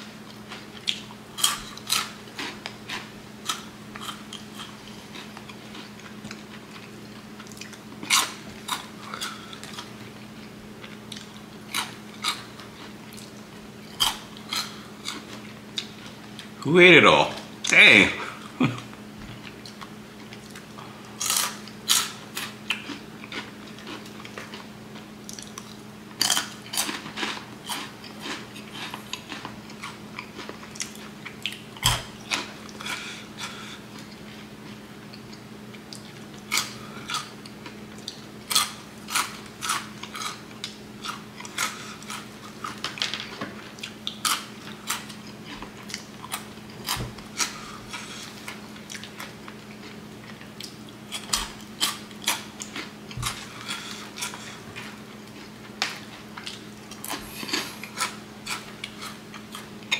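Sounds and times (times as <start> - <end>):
low steady hum: 0.0 - 59.9
crunchy snacks being chewed: 0.2 - 16.6, 18.7 - 59.9.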